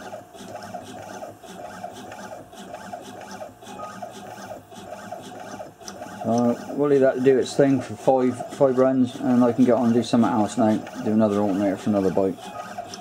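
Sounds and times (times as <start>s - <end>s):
coil winding machine motors whining: 0.0s - 13.0s.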